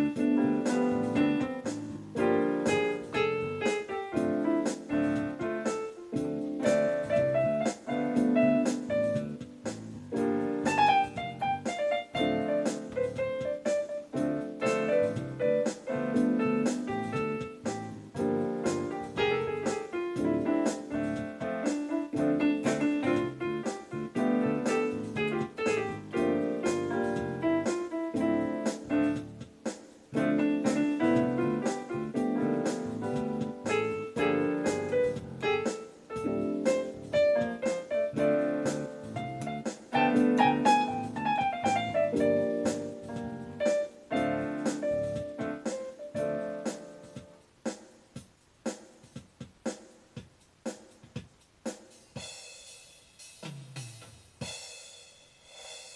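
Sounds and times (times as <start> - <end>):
keyboard piano chords and melody: 0.0 - 48.3
backing track percussive beat: 0.0 - 55.9.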